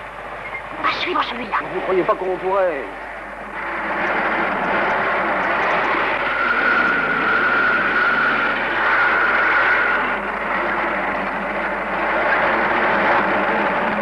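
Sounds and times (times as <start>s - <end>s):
high whine: 0.0s - 14.0s.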